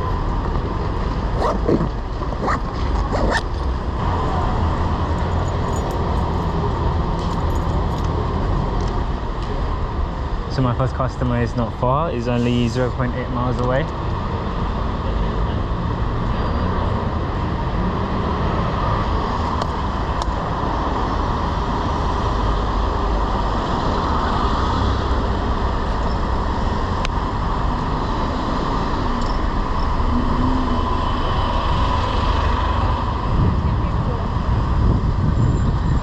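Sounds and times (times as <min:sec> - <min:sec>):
road and traffic noise: 0:00.0 - 0:36.0.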